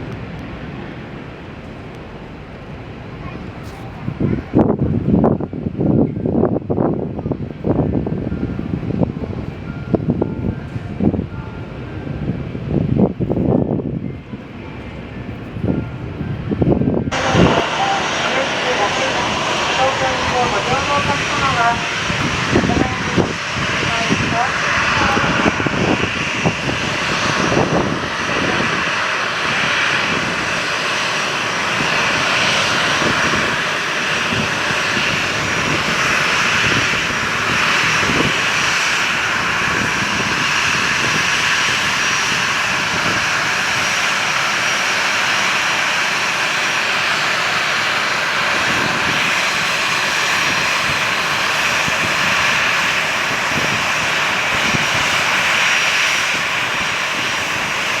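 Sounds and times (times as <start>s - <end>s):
aircraft engines running: 0.0s - 58.0s
wind buffeting microphone: 0.0s - 58.0s.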